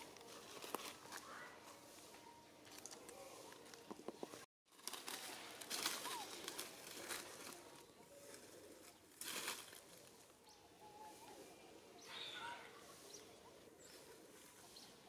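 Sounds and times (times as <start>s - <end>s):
dry leaves rustling: 0.0s - 15.0s.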